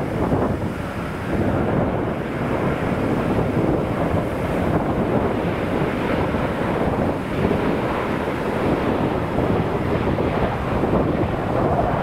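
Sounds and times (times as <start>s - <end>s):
jet airliner engine noise: 0.0s - 12.0s
wind buffeting microphone: 0.0s - 12.0s.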